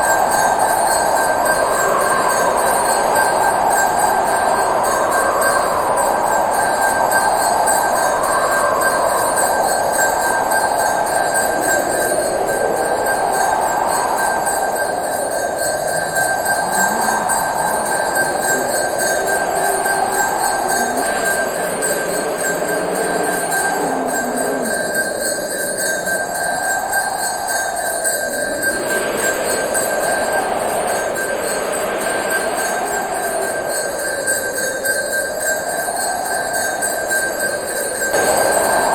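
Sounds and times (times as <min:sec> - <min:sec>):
bell ringing continuously: 0:00.0 - 0:38.9.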